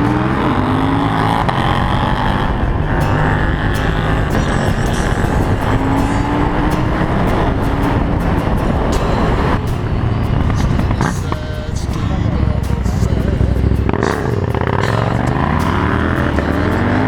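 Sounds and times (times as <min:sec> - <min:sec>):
motorcycle engine: 0:00.0 - 0:17.0
road noise: 0:00.0 - 0:17.0
wind noise: 0:00.0 - 0:17.0.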